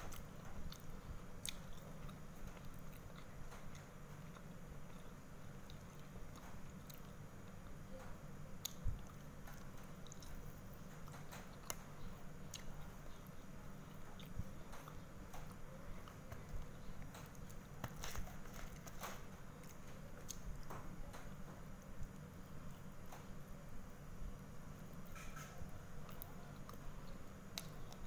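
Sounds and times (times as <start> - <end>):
chewing food: 0.0 - 23.4, 24.7 - 28.0.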